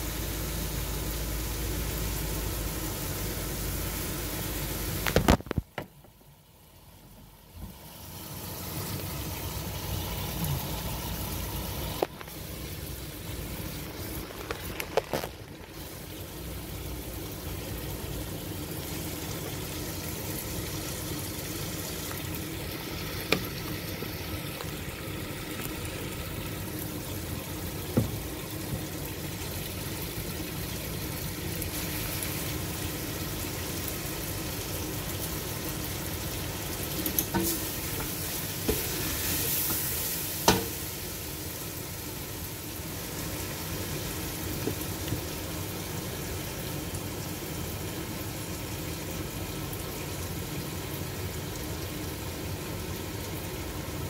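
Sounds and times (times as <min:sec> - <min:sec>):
curry sizzling in a pot: 0:00.0 - 0:05.7, 0:06.3 - 0:54.0.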